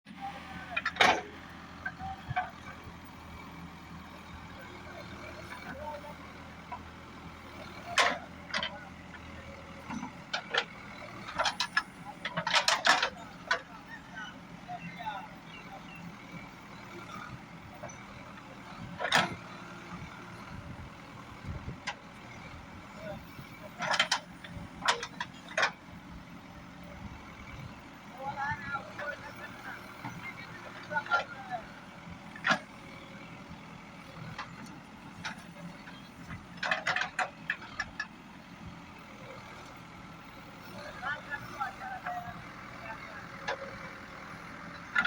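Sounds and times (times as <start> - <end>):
diesel engine running: 0.1 - 45.0.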